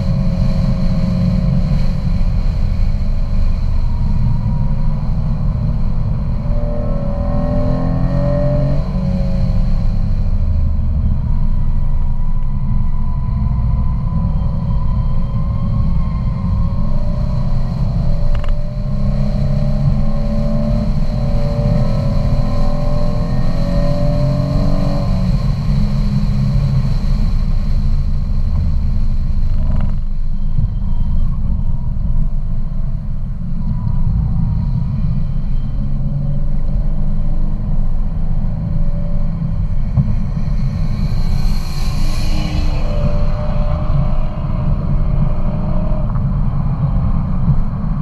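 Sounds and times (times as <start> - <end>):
car engine accelerating: 0.0 - 48.0
road rumble: 0.0 - 48.0.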